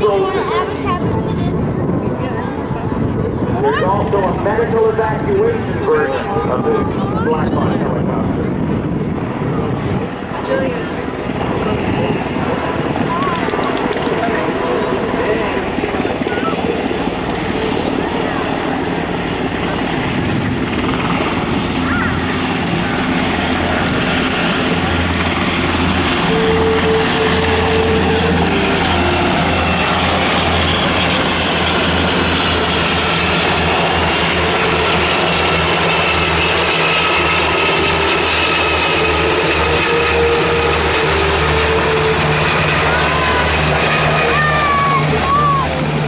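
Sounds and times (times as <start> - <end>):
helicopter rotors beating: 0.0 - 46.0
turbine engines whining: 0.0 - 46.0.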